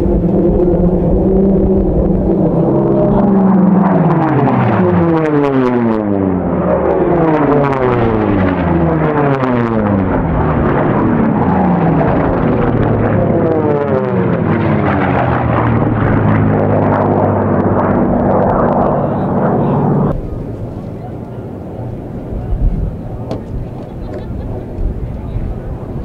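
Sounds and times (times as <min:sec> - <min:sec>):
propeller planes passing at high speed: 0:00.0 - 0:26.0.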